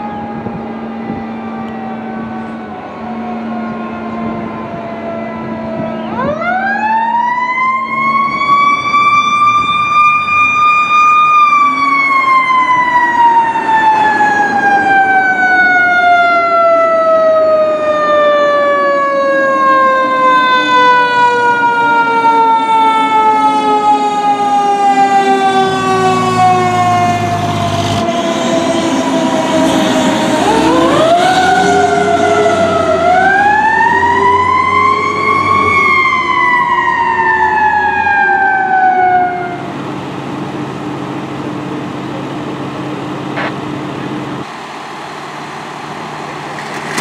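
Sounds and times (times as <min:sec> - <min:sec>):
mechanical siren wailing: 0:00.0 - 0:39.9
diesel engine passing: 0:00.0 - 0:47.0.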